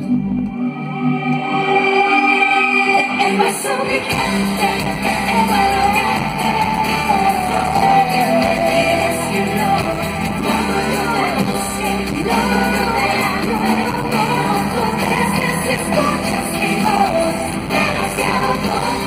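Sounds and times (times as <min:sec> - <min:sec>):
live pop-rock concert music: 0:00.0 - 0:19.0
women singing into microphones: 0:01.7 - 0:19.0.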